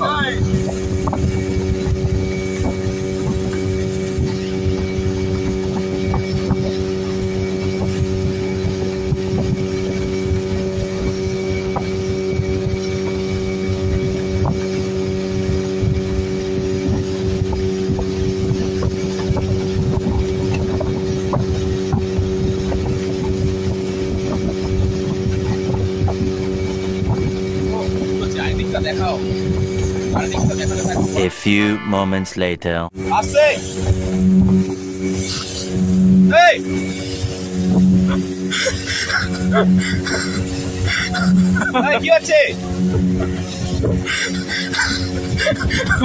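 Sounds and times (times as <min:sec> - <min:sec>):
wind noise: 0:00.0 - 0:31.3, 0:33.0 - 0:41.8, 0:42.5 - 0:46.0
motorboat engine drone: 0:00.0 - 0:32.2, 0:32.9 - 0:46.0.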